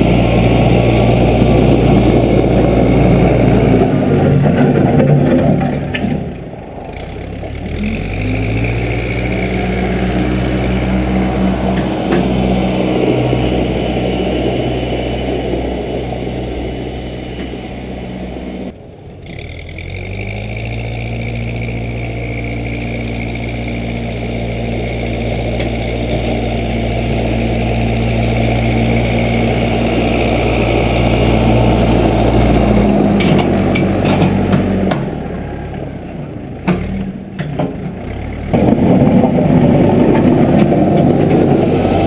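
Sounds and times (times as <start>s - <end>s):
backhoe engine running: 0.0s - 42.0s.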